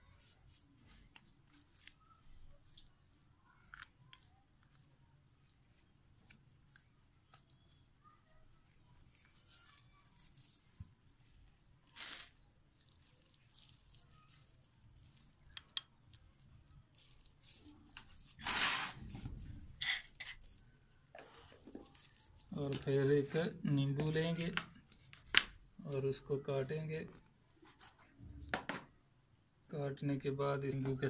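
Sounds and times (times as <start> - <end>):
fingers mixing powder in a bowl: 0.0 - 28.2.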